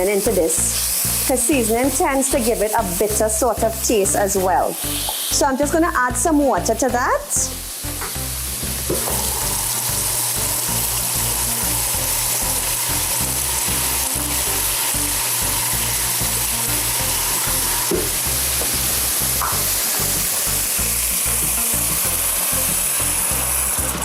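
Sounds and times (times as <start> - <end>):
sauce sizzling in hot oil: 0.0 - 24.0.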